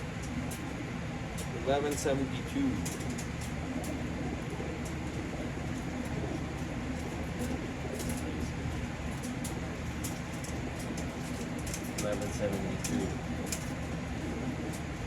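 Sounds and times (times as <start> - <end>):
pigeons cooing: 0.0 - 15.0
steady low hum: 0.0 - 15.0.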